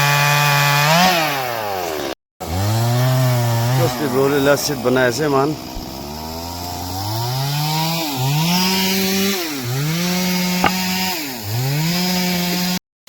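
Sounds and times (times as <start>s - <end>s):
chainsaw cutting wood: 0.0s - 12.8s.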